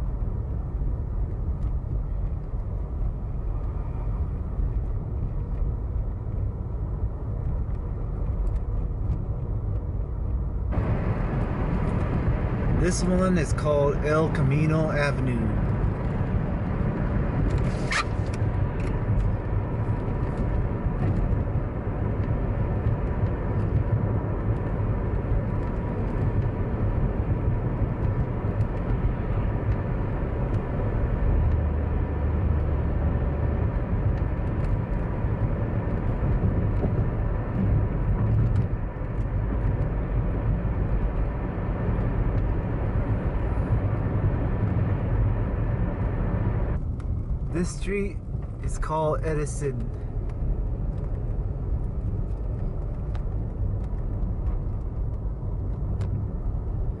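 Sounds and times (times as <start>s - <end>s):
car road and engine noise: 0.0s - 57.0s
deep tyre rumble: 0.0s - 57.0s.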